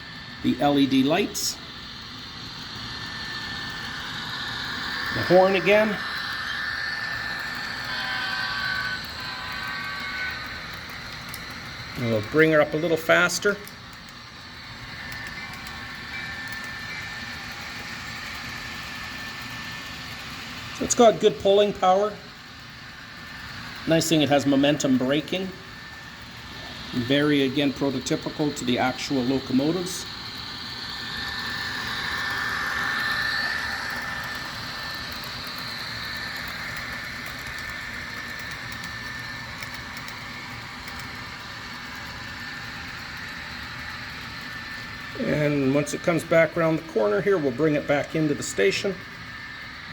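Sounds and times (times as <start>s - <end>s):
model locomotive diesel engine sound: 0.0s - 49.9s.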